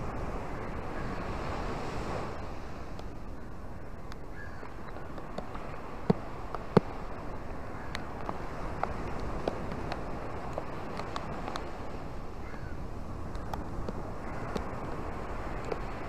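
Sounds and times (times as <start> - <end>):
waves washing on beach: 0.0 - 16.0
wind rumble on microphone: 0.0 - 16.0.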